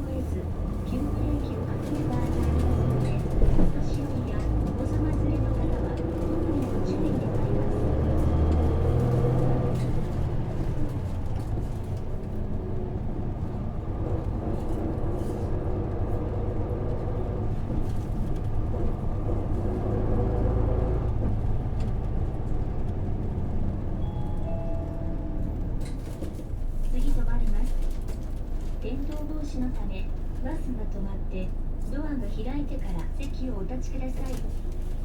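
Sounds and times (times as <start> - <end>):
bus diesel engine from inside: 0.0 - 35.0.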